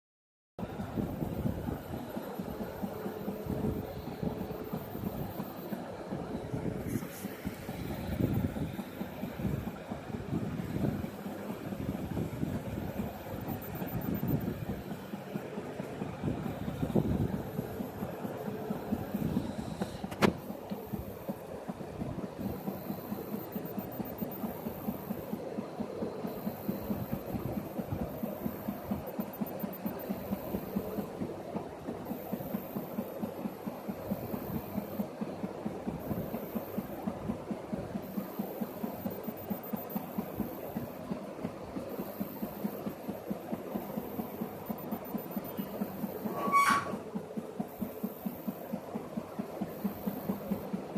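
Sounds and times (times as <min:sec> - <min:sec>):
stepper motors ticking and buzzing: 0:00.6 - 0:50.9.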